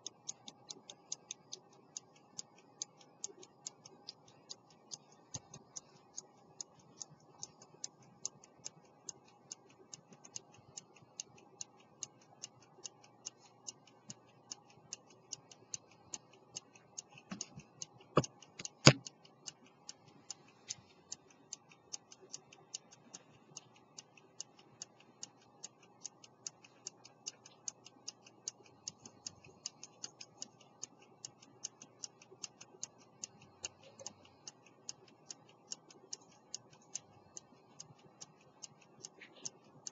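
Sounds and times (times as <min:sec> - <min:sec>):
pocket watch ticking: 0:00.0 - 0:39.9.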